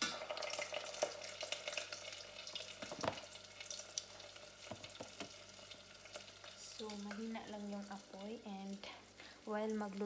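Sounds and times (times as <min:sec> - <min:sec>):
food frying in hot oil: 0:00.0 - 0:10.0.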